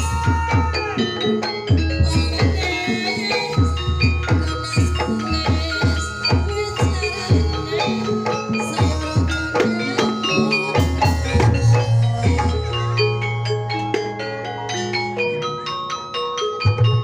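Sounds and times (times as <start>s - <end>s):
metallophones ringing: 0.0s - 17.0s.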